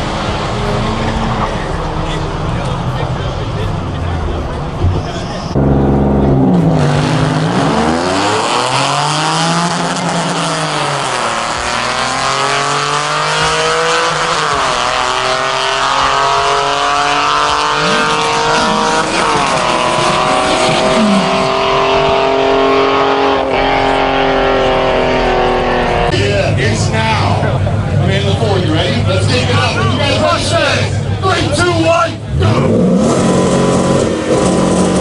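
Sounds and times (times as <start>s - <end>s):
drag cars accelerating: 0.0s - 35.0s.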